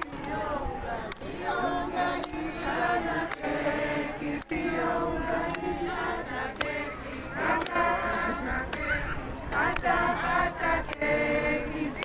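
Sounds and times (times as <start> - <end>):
crowd singing in unison: 0.0 - 12.0.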